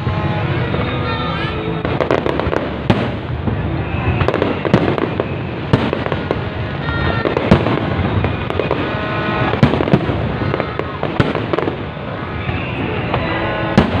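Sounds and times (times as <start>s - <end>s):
fireworks rumble and crackle: 0.0s - 14.0s.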